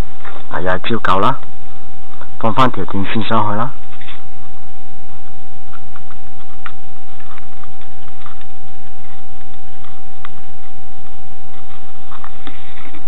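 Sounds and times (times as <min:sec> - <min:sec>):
computer fan hum: 0:00.0 - 0:13.0.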